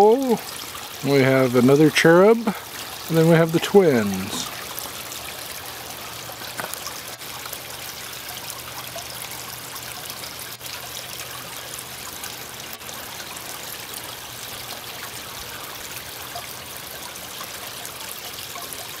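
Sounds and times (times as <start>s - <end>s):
fountain water trickling: 0.0s - 19.0s.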